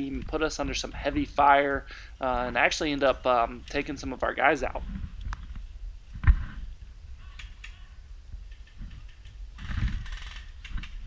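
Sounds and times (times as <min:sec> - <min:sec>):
low microphone rumble: 0:00.0 - 0:11.0.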